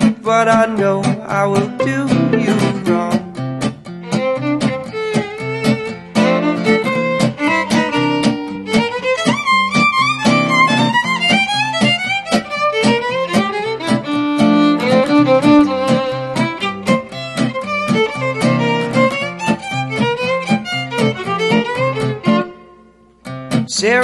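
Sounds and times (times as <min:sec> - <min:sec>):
strummed chords: 0:00.0 - 0:24.0
fiddle sliding melody: 0:01.7 - 0:22.8.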